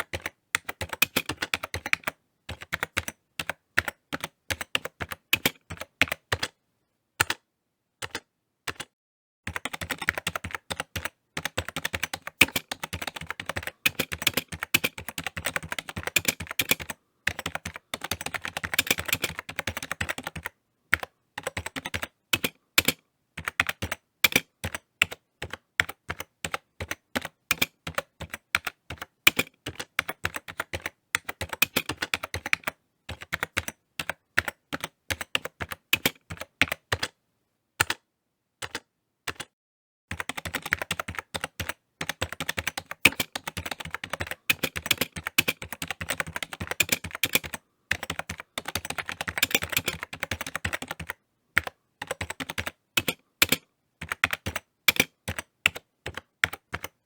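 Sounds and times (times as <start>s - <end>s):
typing on computer keyboard: 0.0s - 6.6s, 7.2s - 7.4s, 8.0s - 37.2s, 37.8s - 38.0s, 38.6s - 57.0s.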